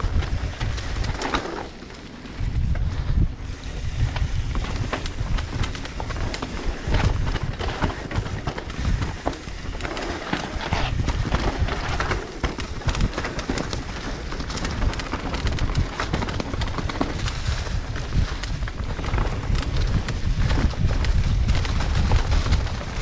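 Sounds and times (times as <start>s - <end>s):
bike rattling over bumps: 0.0s - 23.0s
wind on microphone: 0.0s - 23.0s.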